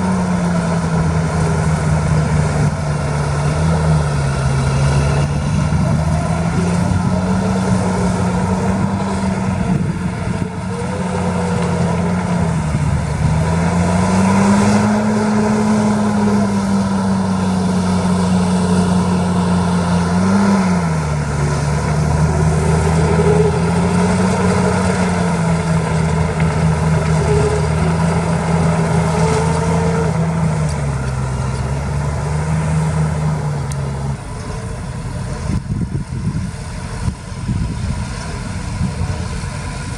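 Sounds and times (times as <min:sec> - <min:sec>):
heavy diesel engine revving: 0:00.0 - 0:39.9.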